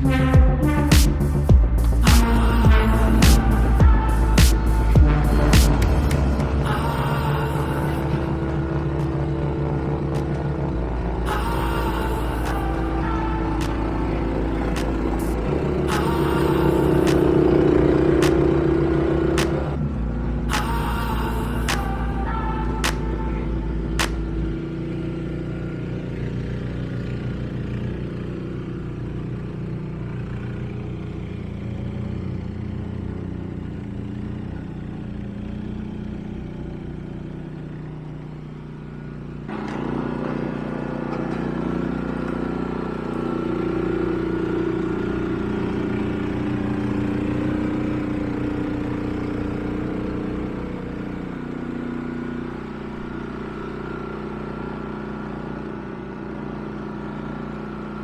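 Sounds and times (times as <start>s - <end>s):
snowblower engine running: 0.0s - 58.0s.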